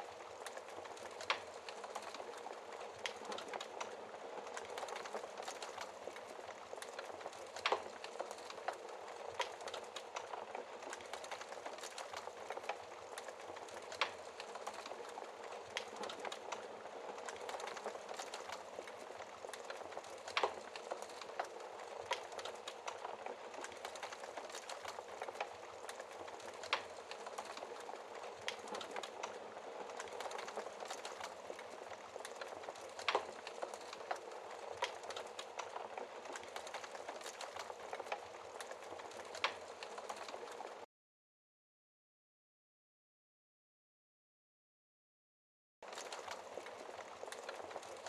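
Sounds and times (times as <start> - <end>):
campfire crackling: 0.0 - 40.8, 45.8 - 48.0
burning wood popping: 0.4 - 40.8, 45.9 - 48.0.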